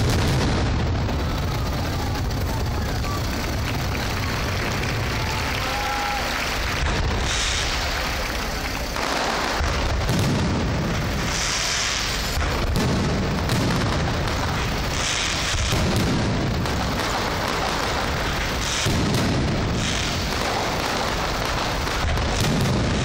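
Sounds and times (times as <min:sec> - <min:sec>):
fireworks booming: 0:00.0 - 0:23.0
fireworks hissing: 0:00.0 - 0:23.0.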